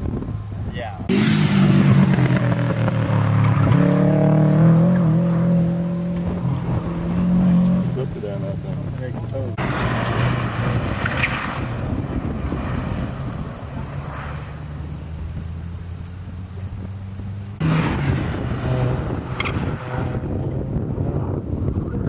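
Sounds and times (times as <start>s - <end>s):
race car engines: 0.0s - 22.0s.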